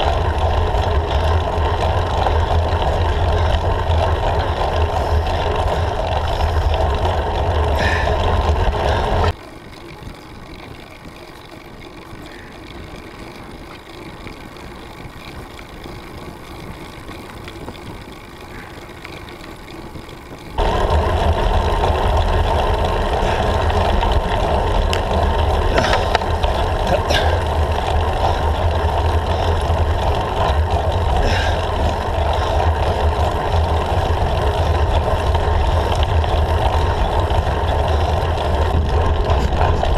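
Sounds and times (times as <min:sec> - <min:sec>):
wind and vibration rumble: 0:00.0 - 0:39.9.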